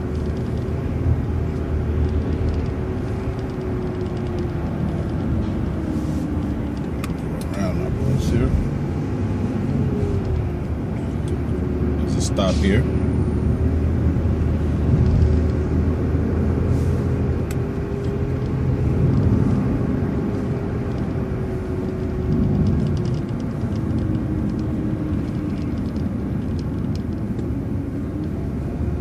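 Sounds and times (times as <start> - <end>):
bus engine and road rumble: 0.0 - 29.0.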